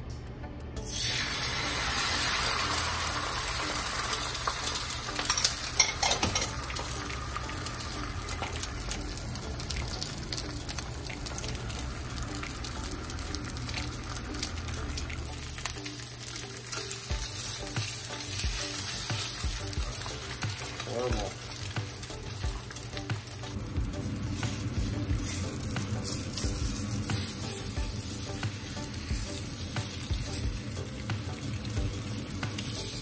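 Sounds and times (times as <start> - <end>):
eggs sizzling in hot oil: 0.8 - 33.0.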